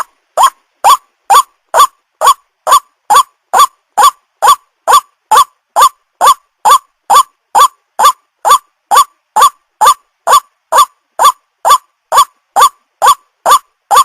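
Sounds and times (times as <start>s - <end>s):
waterhen harsh calls: 0.0s - 14.0s.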